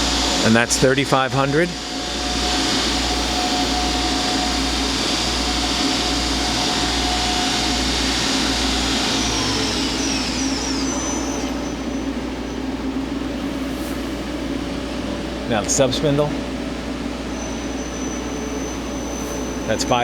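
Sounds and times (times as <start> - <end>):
loud machine spindle whir: 0.0 - 20.0.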